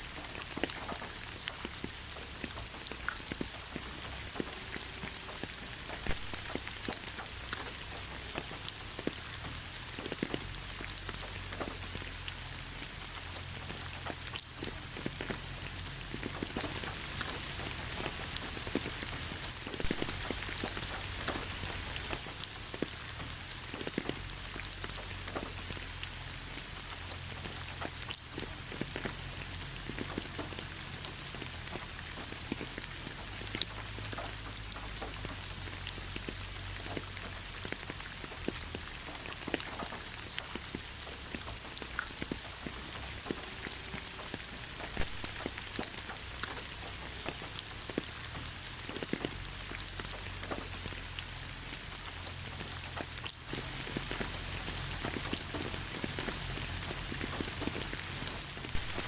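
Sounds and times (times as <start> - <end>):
rain falling: 0.0 - 59.0
raindrops pattering on surfaces: 0.0 - 59.0.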